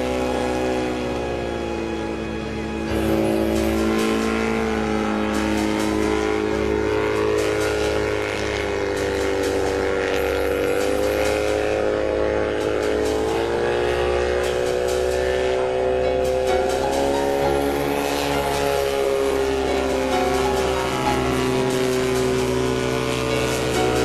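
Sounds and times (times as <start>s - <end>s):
helicopter engine droning: 0.0s - 24.0s.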